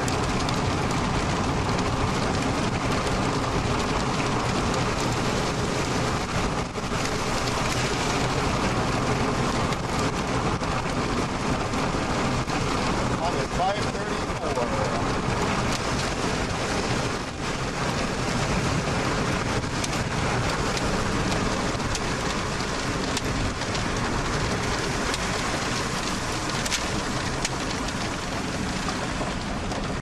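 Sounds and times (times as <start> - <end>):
rain falling: 0.0 - 30.0
raindrops tapping: 0.0 - 30.0.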